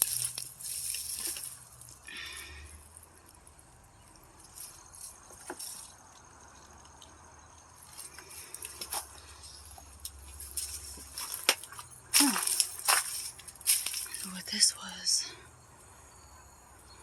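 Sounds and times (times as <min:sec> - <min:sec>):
small clicks and crackles: 0:00.0 - 0:14.3.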